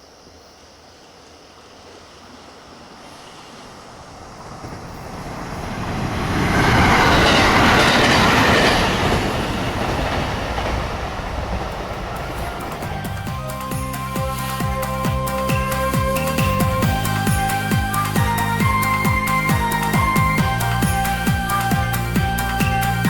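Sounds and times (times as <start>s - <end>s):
train passing close by: 1.4s - 23.0s.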